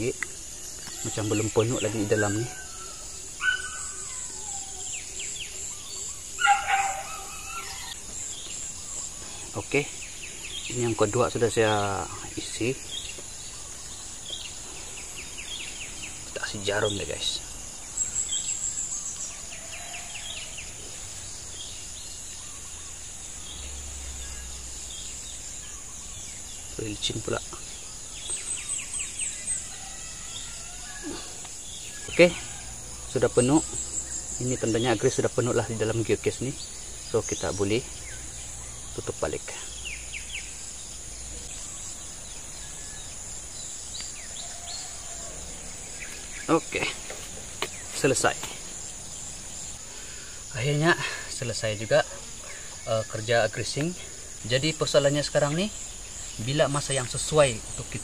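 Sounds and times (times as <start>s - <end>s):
bird chirping: 0.0s - 58.0s
insects buzzing: 0.0s - 58.0s.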